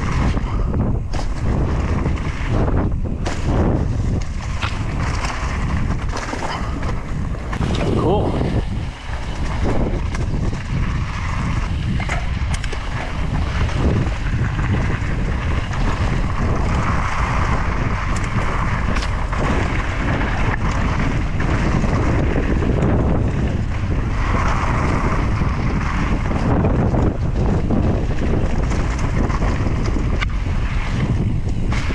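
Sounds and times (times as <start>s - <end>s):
mountain bike rumble: 0.0s - 31.9s
wind rush on microphone: 0.0s - 31.9s.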